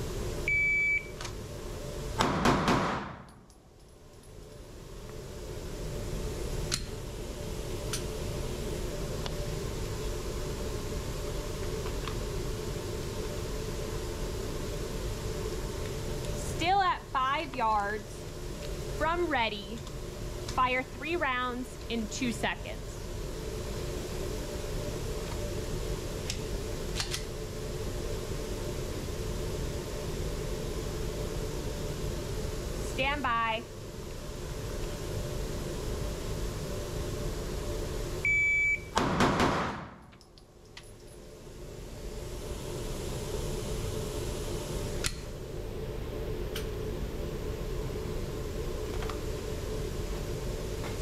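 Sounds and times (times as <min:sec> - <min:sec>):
ventilation hum: 0:00.0 - 0:51.0.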